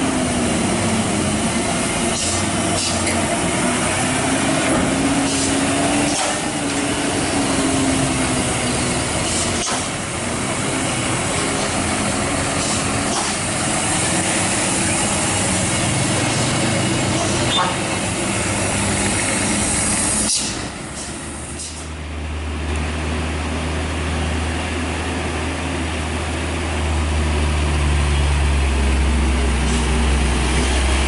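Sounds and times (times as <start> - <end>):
heavy truck engine under load: 0.0 - 31.0.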